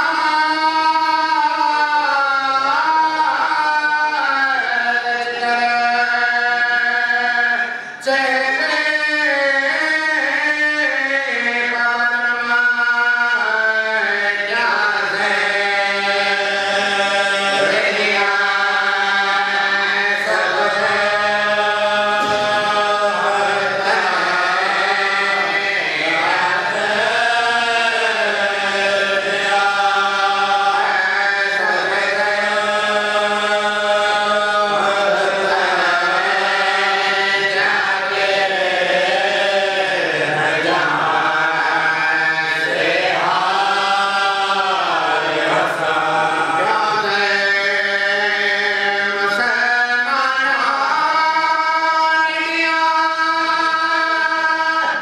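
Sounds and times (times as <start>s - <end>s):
man chanting into microphone: 0.0s - 55.0s.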